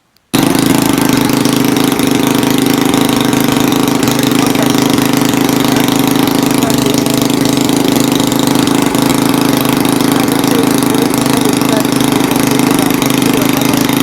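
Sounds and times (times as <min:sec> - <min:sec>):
small engine humming: 0:00.3 - 0:14.0.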